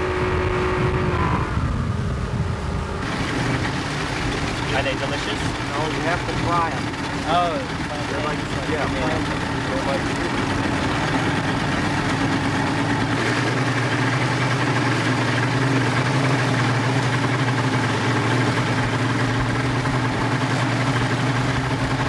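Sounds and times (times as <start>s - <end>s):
speedboat engine running: 0.0s - 22.0s
water wash: 3.0s - 22.0s.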